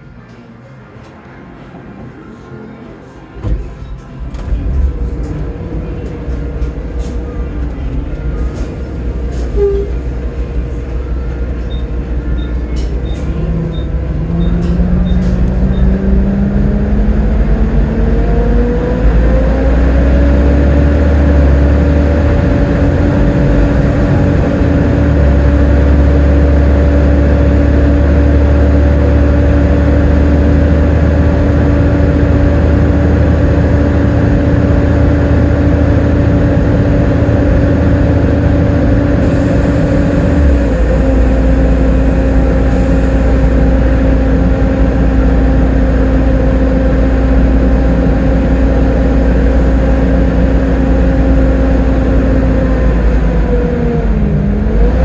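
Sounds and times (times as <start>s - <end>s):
bus engine whine: 0.0s - 55.0s.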